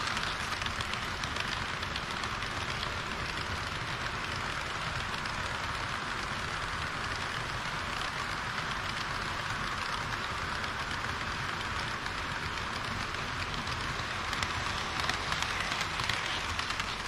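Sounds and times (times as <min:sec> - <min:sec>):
model train rolling hiss: 0:00.0 - 0:17.0
model train wheel clicks: 0:00.0 - 0:17.0.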